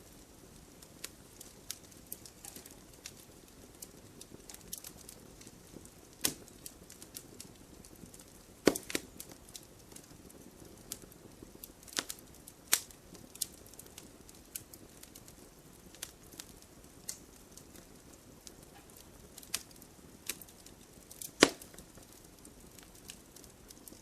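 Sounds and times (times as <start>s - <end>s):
faint low hiss: 0.0s - 24.0s
wood fire crackling: 0.0s - 24.0s.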